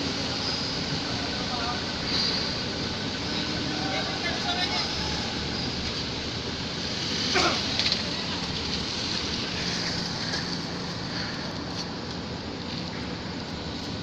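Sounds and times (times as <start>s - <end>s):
heavy truck engines rumbling: 0.0s - 14.0s.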